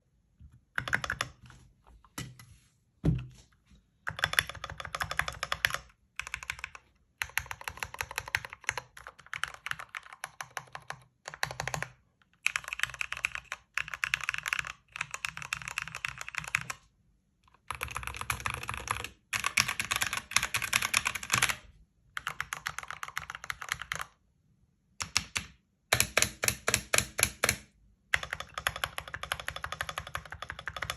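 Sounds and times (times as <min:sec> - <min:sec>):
mechanical keyboard typing: 0:00.7 - 0:01.4, 0:04.1 - 0:16.8, 0:17.5 - 0:21.6, 0:22.2 - 0:24.2, 0:25.0 - 0:30.9.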